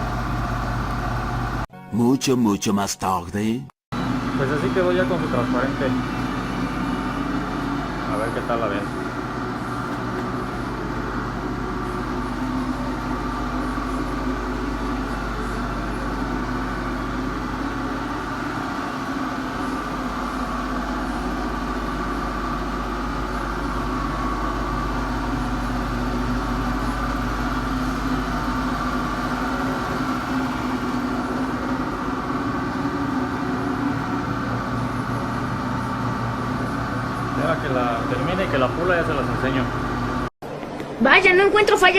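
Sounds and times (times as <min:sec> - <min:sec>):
steady machine hum: 0:00.0 - 0:01.7, 0:03.9 - 0:40.3.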